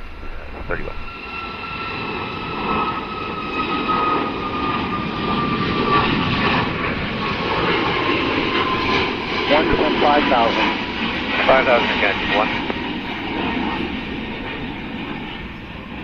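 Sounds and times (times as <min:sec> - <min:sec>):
jet aircraft taking off: 0:00.0 - 0:16.0.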